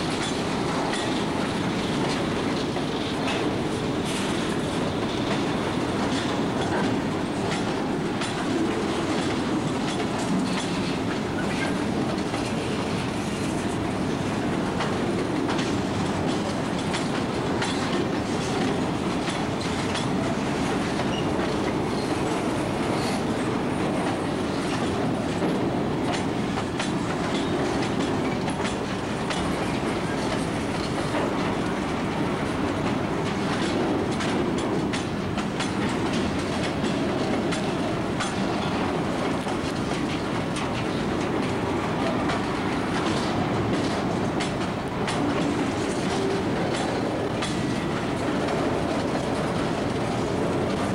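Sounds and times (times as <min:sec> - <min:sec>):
train wheels rumbling on rail: 0:00.0 - 0:50.9
wheels clicking over rail joints: 0:00.0 - 0:50.9.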